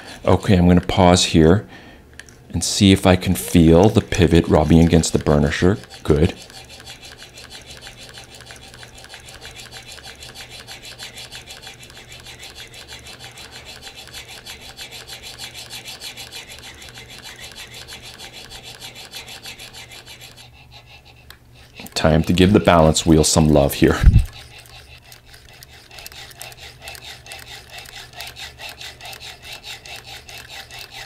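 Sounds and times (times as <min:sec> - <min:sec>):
rapid rhythmic metal rubbing: 0:02.6 - 0:31.0.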